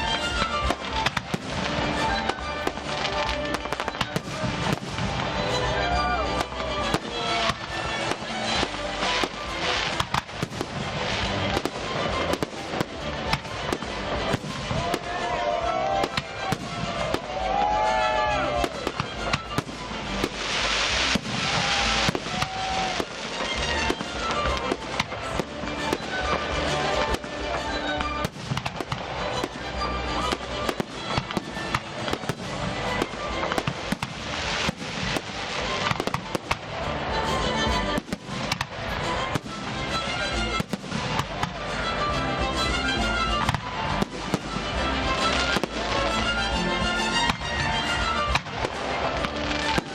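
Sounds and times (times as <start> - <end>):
whistling firework tails: 0.0 - 46.4.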